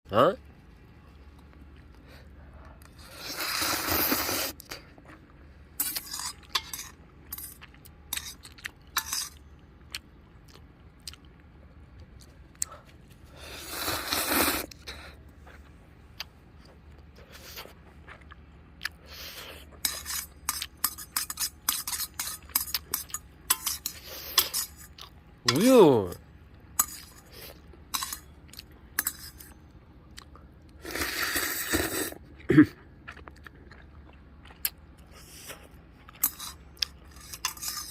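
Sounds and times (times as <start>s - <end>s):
chewing: 1.3s - 13.2s, 14.7s - 25.2s, 26.8s - 37.9s.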